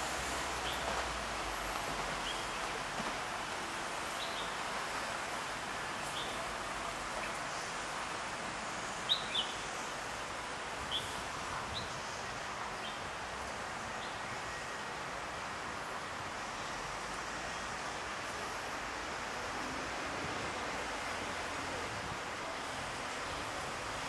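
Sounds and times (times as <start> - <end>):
city street hum: 0.0 - 24.0.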